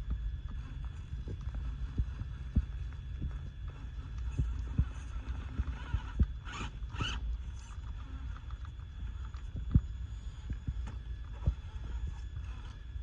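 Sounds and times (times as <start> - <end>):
rc truck motor rumble: 0.0 - 13.0.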